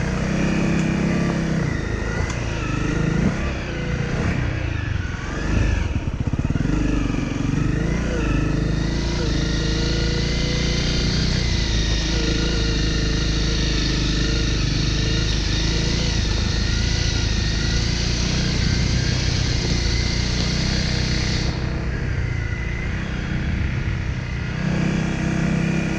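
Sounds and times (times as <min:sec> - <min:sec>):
dirt bike engine running: 0:00.0 - 0:25.9.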